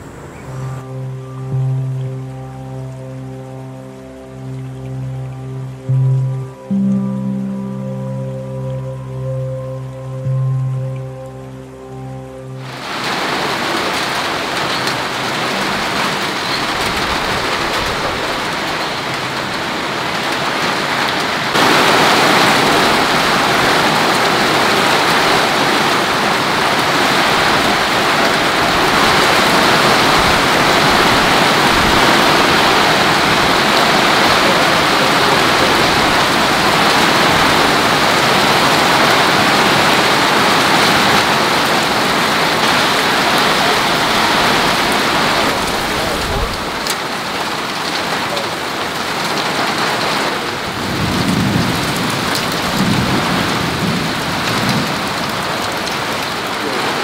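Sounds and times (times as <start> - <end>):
heavy rain on roofs and foliage: 0.0 - 57.0.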